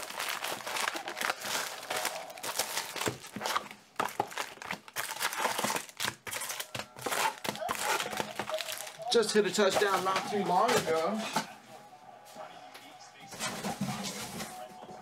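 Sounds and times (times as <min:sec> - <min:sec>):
card packs crinkling and rustling: 0:00.0 - 0:11.5, 0:13.3 - 0:14.8.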